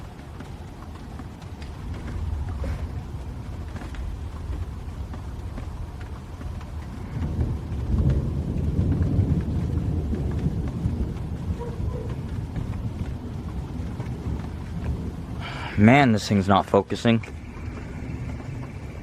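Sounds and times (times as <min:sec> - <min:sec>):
raindrops ticking: 0:00.0 - 0:19.0
rolling thunder: 0:00.0 - 0:19.0
steady rain: 0:00.0 - 0:19.0.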